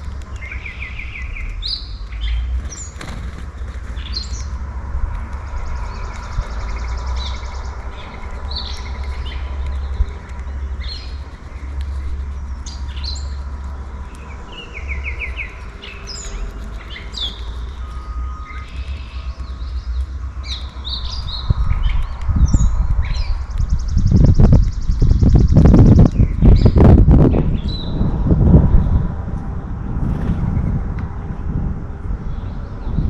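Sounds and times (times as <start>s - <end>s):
low rumble: 0.0s - 33.0s
songbirds chirping: 0.0s - 33.0s.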